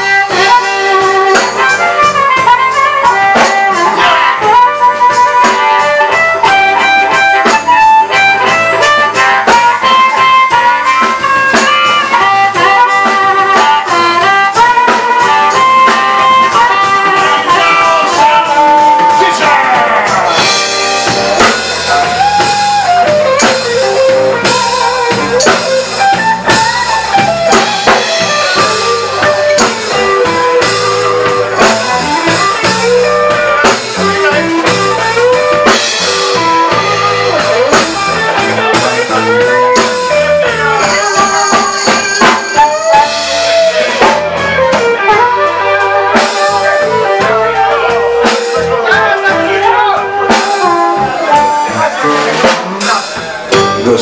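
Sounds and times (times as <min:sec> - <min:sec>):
drum kit: 0:00.0 - 0:54.0
electric guitar: 0:00.0 - 0:54.0
lead guitar line: 0:00.0 - 0:54.0.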